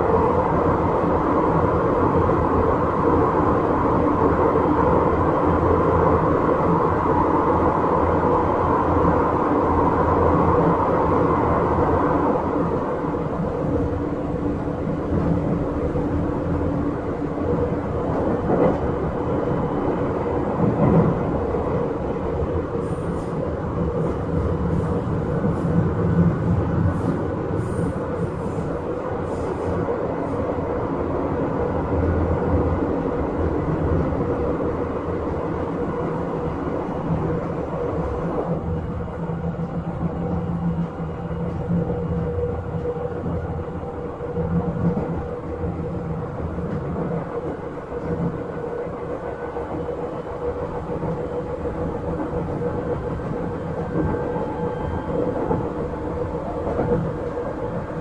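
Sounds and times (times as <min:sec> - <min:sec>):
train motor and gear hum: 0:00.0 - 0:58.0
train wheels rumbling on rail: 0:00.0 - 0:58.0.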